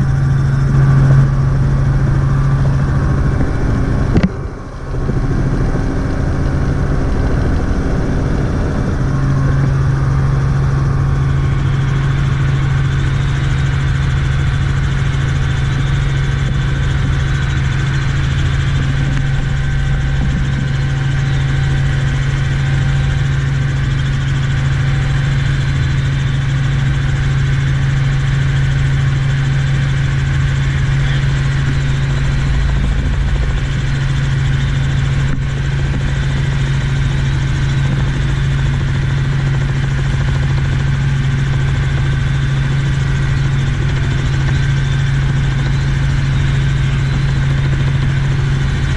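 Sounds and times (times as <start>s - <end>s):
helicopter engine and rotor hum: 0.0s - 48.9s.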